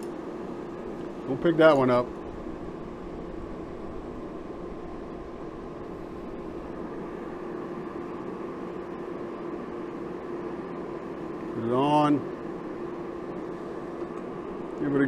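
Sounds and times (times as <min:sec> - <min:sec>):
gas forge rushing: 0:00.0 - 0:15.0.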